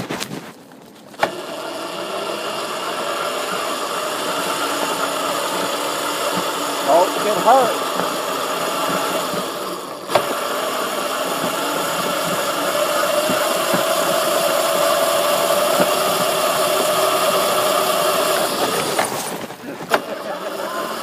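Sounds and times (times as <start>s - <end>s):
electric dirt bike whine: 1.1s - 21.0s.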